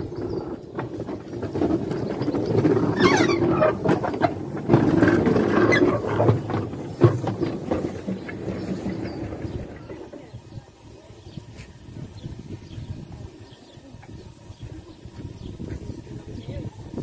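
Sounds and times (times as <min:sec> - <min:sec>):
steam locomotive running slowly: 0:00.0 - 0:17.0.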